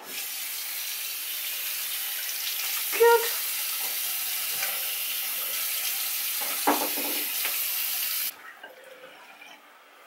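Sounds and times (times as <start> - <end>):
tap water running into sink: 0.0 - 9.5.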